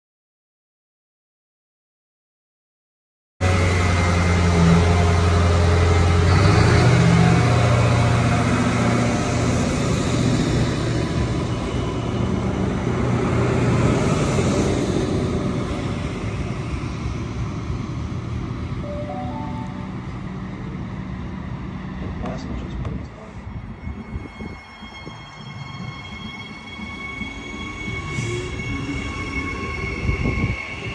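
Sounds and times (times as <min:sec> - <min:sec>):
diesel railcar engine accelerating: 0:03.4 - 0:30.9.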